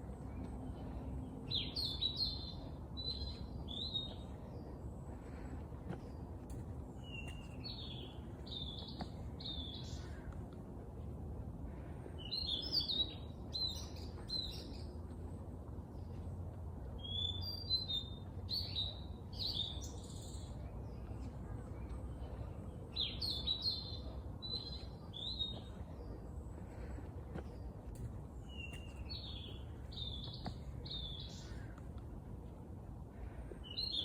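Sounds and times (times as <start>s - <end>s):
low background hum: 0.0s - 34.0s
songbird singing: 0.0s - 34.0s.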